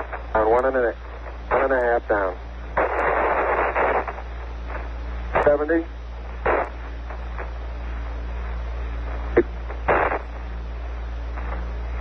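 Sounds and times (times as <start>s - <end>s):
burst of static: 0.0s - 12.0s
low hum: 0.0s - 12.0s
radio hiss: 0.0s - 12.0s.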